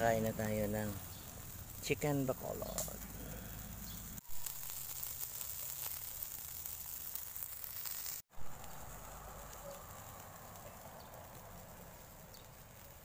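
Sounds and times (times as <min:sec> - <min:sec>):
coals crackling: 0:00.0 - 0:13.0
meat sizzling on a grill: 0:00.0 - 0:13.0.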